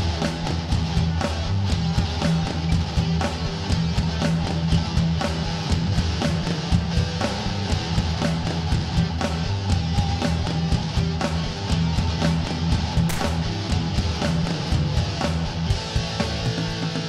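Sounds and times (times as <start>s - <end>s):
electric guitar: 0.0s - 17.0s
rock music: 0.0s - 17.0s
steady drum beat: 0.0s - 17.0s.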